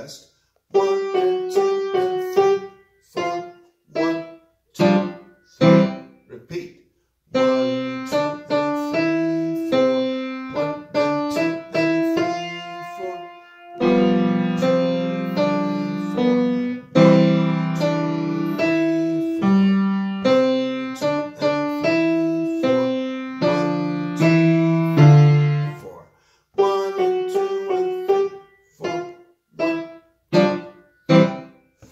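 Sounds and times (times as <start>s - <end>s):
piano playing simple tune: 0.7s - 6.4s, 7.3s - 31.9s.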